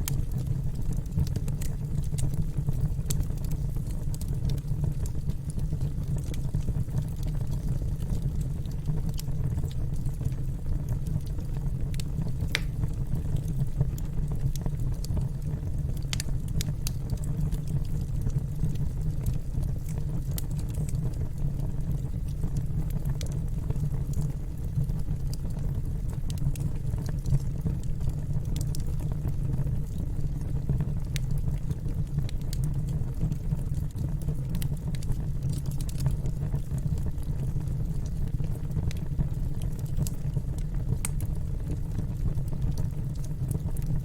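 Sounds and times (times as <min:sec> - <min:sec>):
fire popping and snapping: 0:00.0 - 0:44.0
wood fire rumbling: 0:00.0 - 0:44.0.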